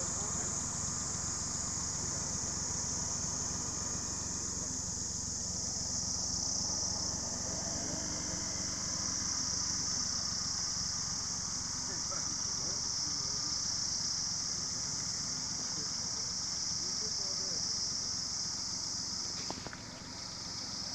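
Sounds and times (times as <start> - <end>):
continuous low rumble: 0.0 - 20.9
high-pitched insect chorus: 0.0 - 20.9.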